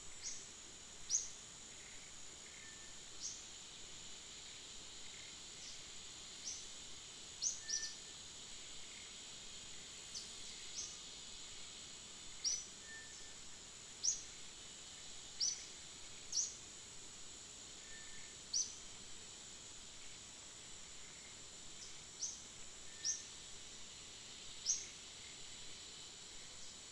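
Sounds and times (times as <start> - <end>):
high insect hiss: 0.0 - 26.9.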